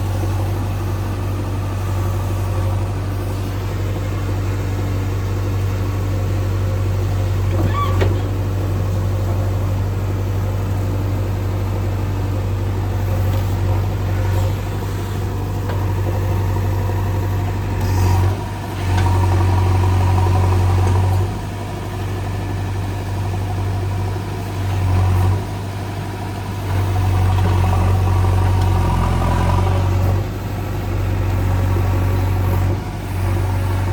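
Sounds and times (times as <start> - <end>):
backhoe diesel engine running: 0.0 - 33.9.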